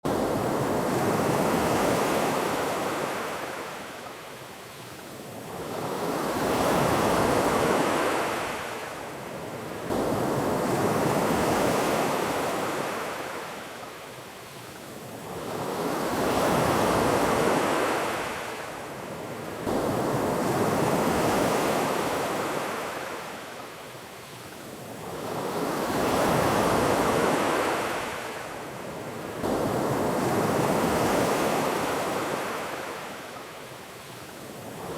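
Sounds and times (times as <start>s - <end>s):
ocean waves breaking on beach: 0.1s - 34.9s.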